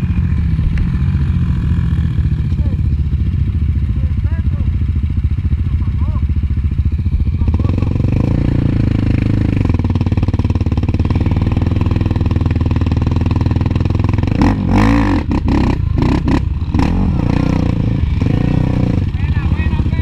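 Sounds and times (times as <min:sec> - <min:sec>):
quad engine running hard: 0:00.0 - 0:20.0.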